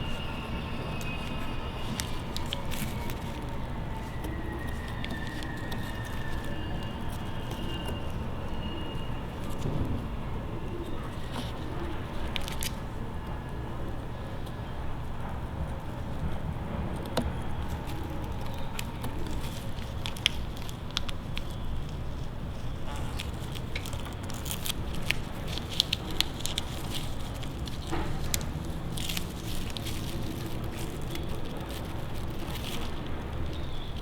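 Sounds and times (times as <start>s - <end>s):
masking tape crackling: 0.0s - 13.4s, 16.2s - 34.0s.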